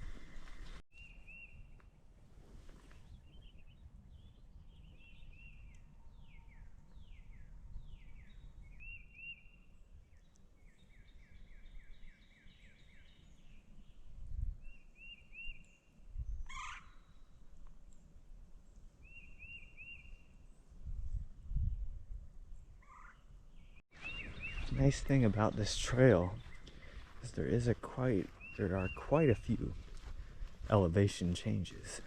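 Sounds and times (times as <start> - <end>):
songbirds calling and singing: 0.0 - 2.0, 2.8 - 21.8, 22.5 - 32.0.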